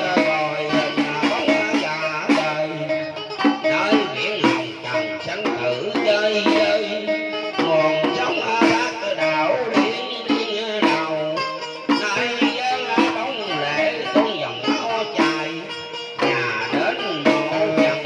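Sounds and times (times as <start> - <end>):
hand drum strokes: 0.0 - 18.0
plucked string melody: 0.0 - 18.0.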